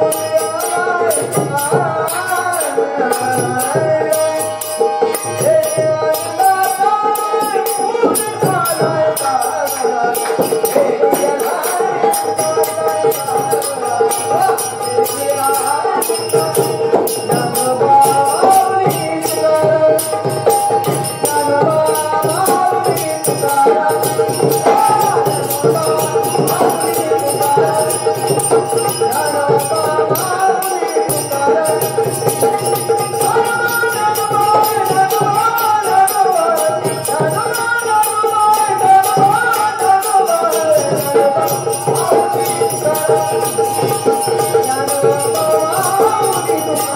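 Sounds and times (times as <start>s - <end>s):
jingling percussion: 0.0s - 46.9s.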